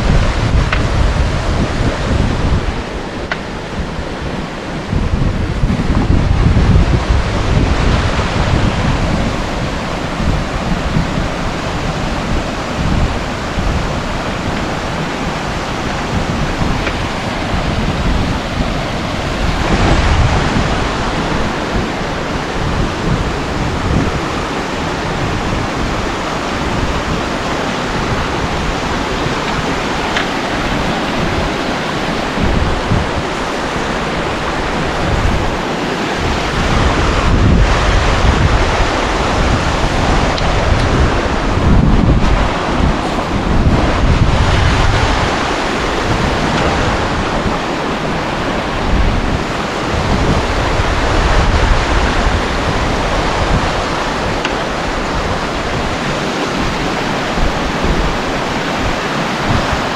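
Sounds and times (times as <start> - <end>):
waterfall rushing: 0.0 - 59.9
wind buffeting microphone: 0.0 - 59.9.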